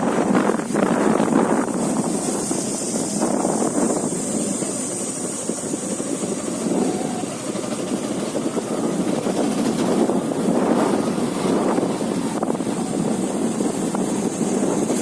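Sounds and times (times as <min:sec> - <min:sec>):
motorbike engine running: 0:00.0 - 0:15.0
rushing riding noise: 0:00.0 - 0:15.0.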